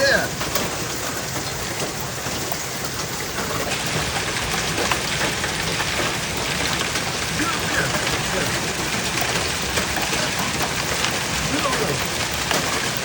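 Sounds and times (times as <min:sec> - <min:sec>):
hail and rain pelting down: 0:00.0 - 0:13.0
sharp clicks of hailstones striking: 0:00.0 - 0:13.0.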